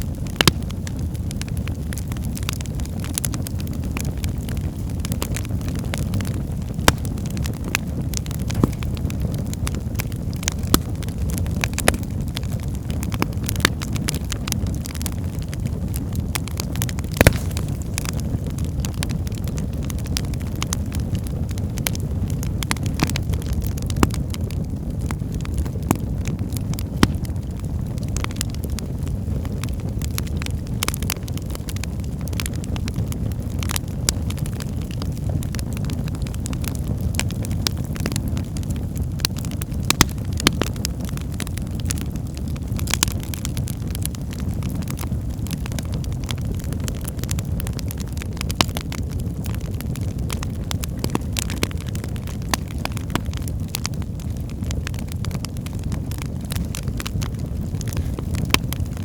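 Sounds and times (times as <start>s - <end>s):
fire burning low rumble: 0.0s - 59.0s
wood fire crackling and popping: 0.0s - 59.0s.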